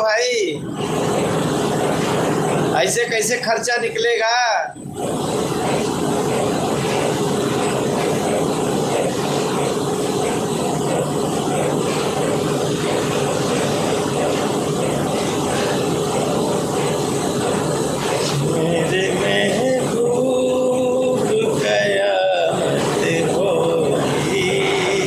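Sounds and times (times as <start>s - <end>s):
machinery droning: 0.0s - 25.0s.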